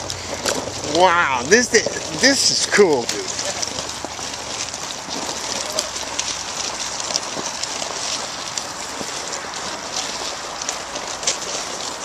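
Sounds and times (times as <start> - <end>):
footsteps on gravel: 0.0 - 12.0
gravel crunching under tyres: 0.0 - 12.0.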